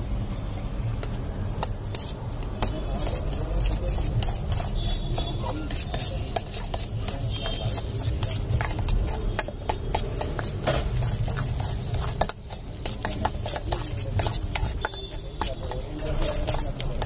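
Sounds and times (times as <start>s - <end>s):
metal spoon scraping steel bowl: 1.5s - 17.0s.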